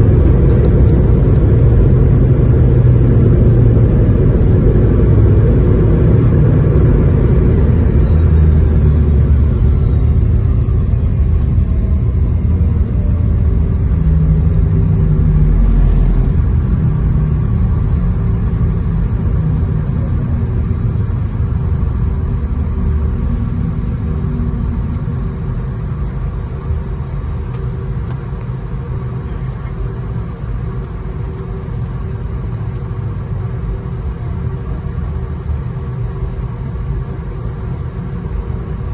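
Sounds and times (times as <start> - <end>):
airliner deep rumble: 0.0 - 38.9
faint jet engine whine: 0.0 - 38.9.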